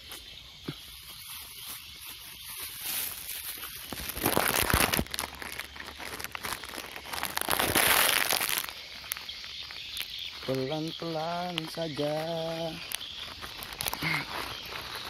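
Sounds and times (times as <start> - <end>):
leaves and twigs rustling: 0.0 - 15.0
twigs snapping: 2.9 - 15.0.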